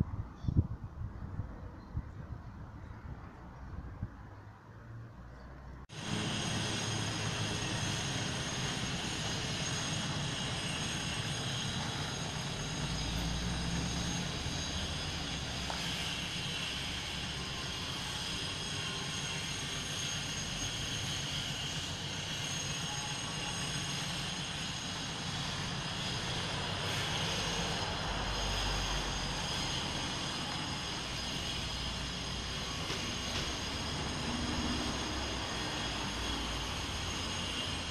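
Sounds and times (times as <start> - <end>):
engine drone: 5.9 - 37.9.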